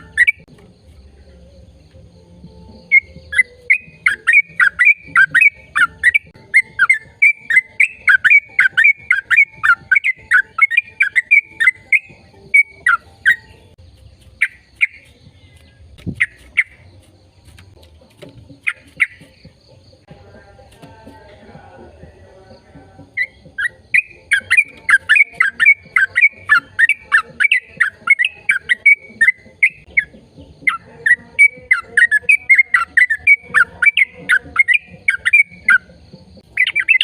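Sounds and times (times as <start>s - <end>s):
bird calling: 0.0s - 0.5s, 2.7s - 20.0s, 21.8s - 37.0s.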